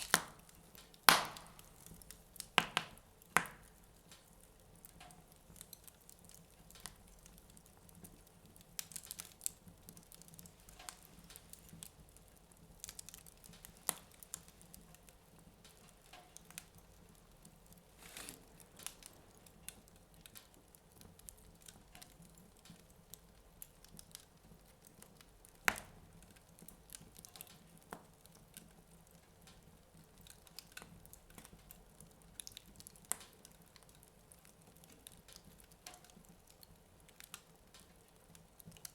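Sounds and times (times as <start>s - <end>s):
fire pops and snaps: 0.0s - 38.9s
wood fire crackling: 0.0s - 38.9s.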